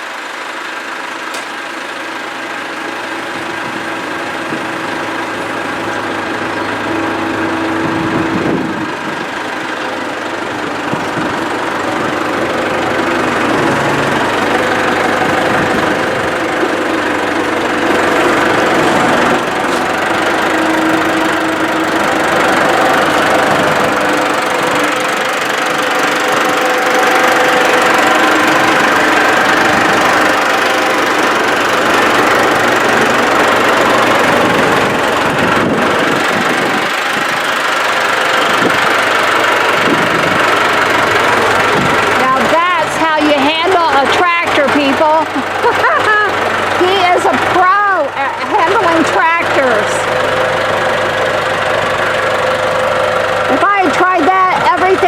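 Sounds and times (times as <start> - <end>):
tractor engine running under load: 0.0 - 55.0.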